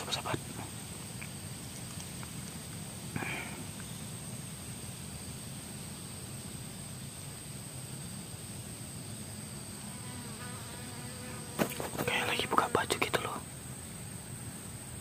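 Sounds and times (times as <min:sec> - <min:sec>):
even hiss: 0:00.0 - 0:15.0.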